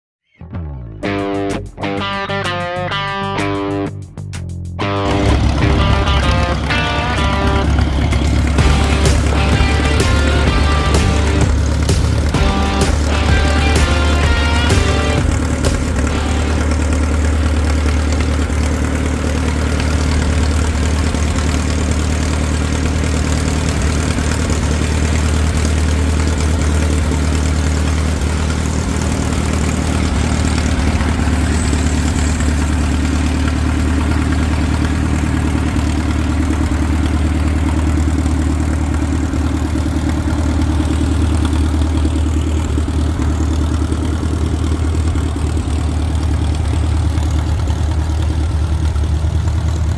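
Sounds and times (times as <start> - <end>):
tractor engine idling: 1.0 - 49.9.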